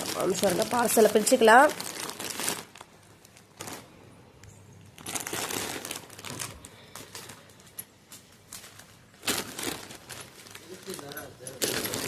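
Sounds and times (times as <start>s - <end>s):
packaging crinkling: 0.0s - 4.0s, 4.8s - 12.0s.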